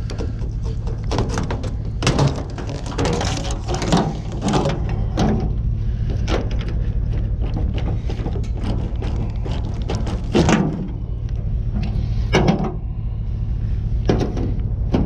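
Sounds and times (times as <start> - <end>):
scrap clattering and knocking: 0.0 - 12.9, 14.0 - 15.0
steady low rumble: 0.0 - 15.0.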